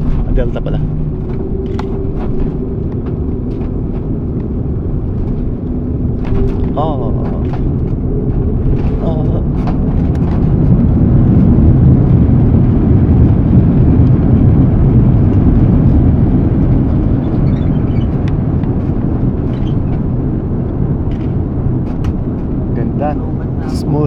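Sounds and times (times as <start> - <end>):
jet cabin roar: 0.0 - 24.0.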